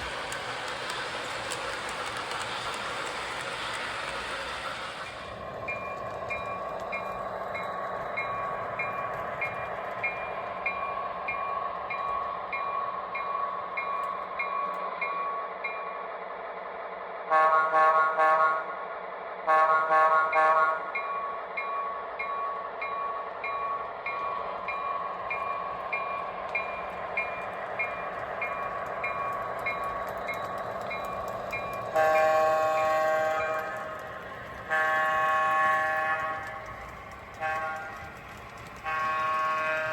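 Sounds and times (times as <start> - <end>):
model train running hum: 0.0 - 39.9.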